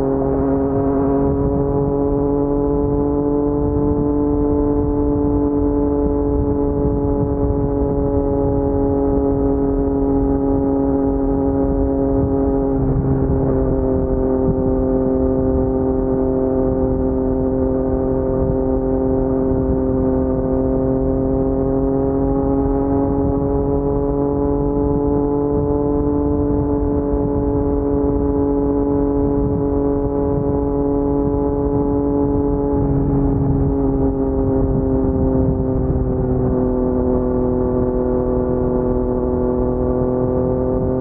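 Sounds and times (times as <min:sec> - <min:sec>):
motorcycle engine at low revs: 0:00.0 - 0:41.0.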